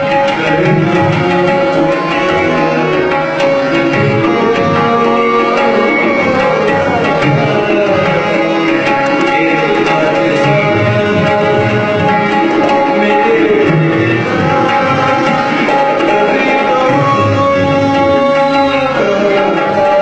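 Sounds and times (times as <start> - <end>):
held steady notes: 0.0 - 20.0
tabla rhythm: 0.0 - 20.0.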